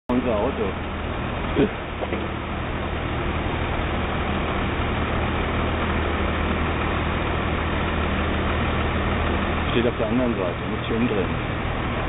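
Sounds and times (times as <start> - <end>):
heavy vehicle engine humming: 0.1 - 12.0
traffic noise: 0.1 - 12.0.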